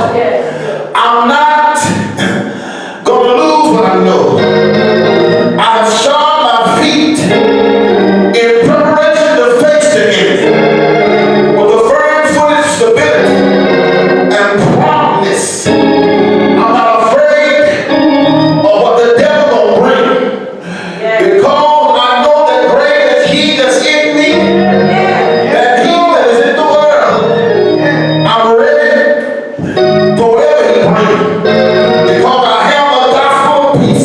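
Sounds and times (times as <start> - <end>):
organ chords: 0.0 - 34.0
voices singing gospel: 0.0 - 34.0.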